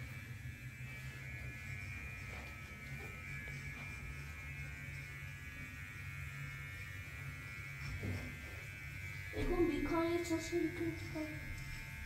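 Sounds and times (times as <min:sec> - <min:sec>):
electrical buzz: 0:00.0 - 0:12.0.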